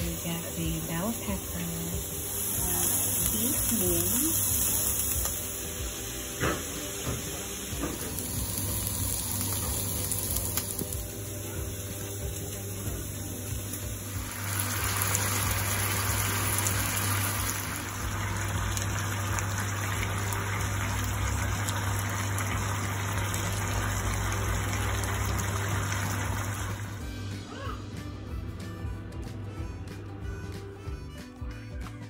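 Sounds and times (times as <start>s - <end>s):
meat sizzling in a frying pan: 0.0s - 27.0s.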